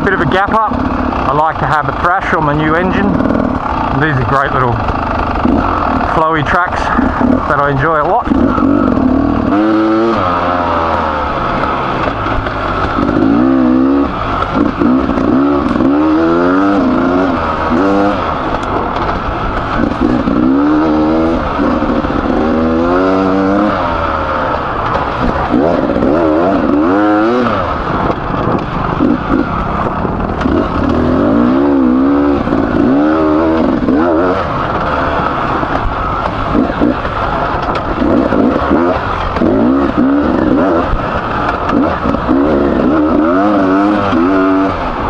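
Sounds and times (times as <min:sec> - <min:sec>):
two-stroke motorcycle engine revving: 0:00.0 - 0:45.0.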